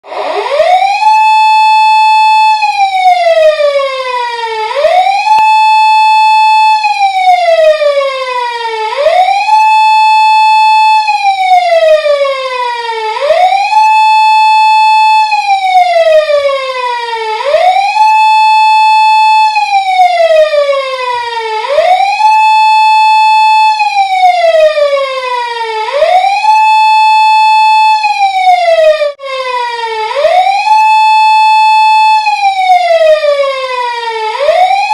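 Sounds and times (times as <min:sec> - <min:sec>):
police siren wailing: 0:00.0 - 0:34.9.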